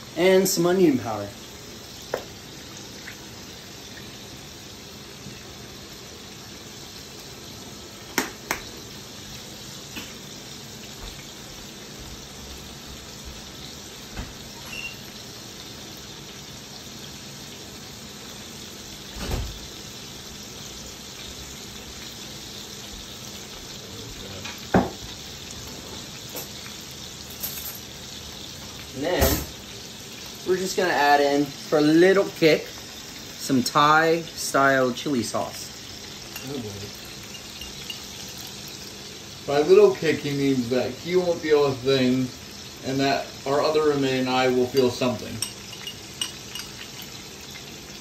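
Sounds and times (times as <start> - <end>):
chicken sizzling in a frying pan: 0.0 - 48.0.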